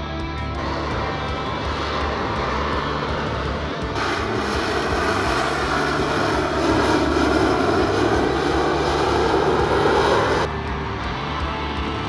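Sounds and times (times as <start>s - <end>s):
jet engine rush: 0.0s - 12.0s.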